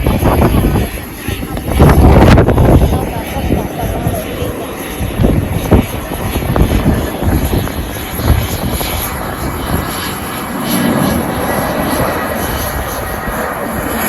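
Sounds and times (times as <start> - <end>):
jet engines running: 0.0 - 14.0
wind buffeting microphone: 0.0 - 14.0.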